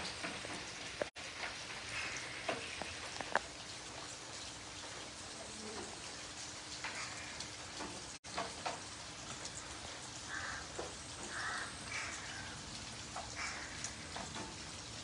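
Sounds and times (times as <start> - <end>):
rain falling on wet pavement: 0.0 - 15.0.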